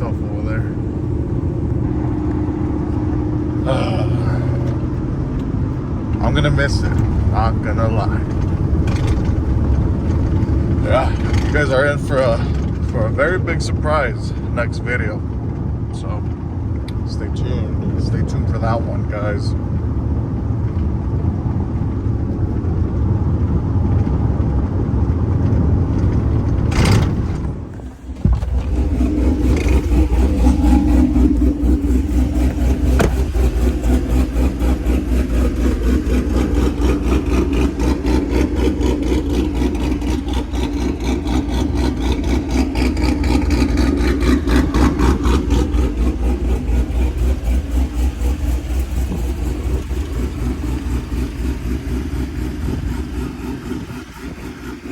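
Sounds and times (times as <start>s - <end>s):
pickup truck engine idling: 0.0s - 54.9s.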